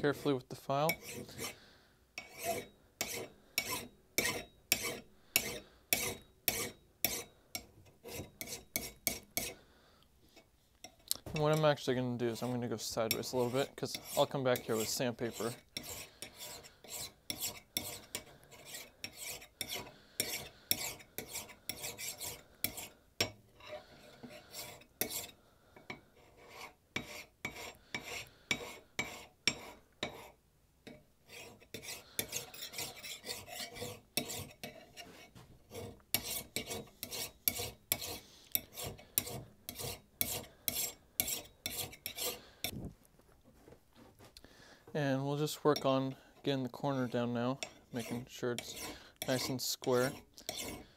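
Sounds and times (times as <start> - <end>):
file scraping steel: 0.0 - 1.6, 2.2 - 9.6, 10.9 - 42.7, 45.6 - 50.9.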